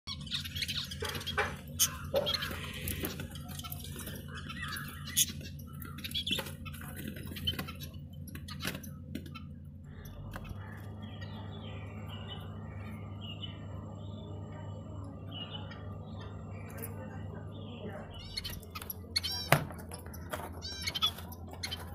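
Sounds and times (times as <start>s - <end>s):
budgerigars chirping and chattering: 0.1s - 21.9s
low steady hum: 0.1s - 21.9s.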